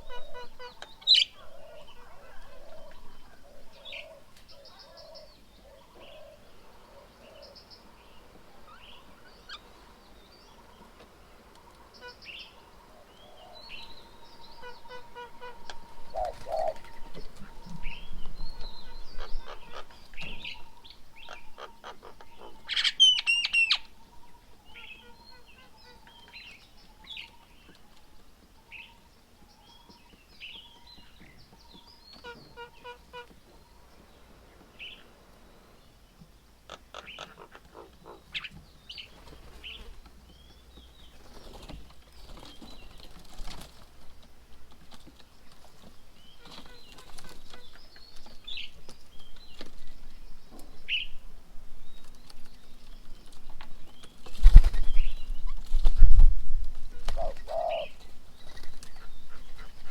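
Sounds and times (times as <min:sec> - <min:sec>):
birds chirping and squawking: 0:00.0 - 0:27.9, 0:29.7 - 0:36.0, 0:36.7 - 0:44.2, 0:45.0 - 0:59.9.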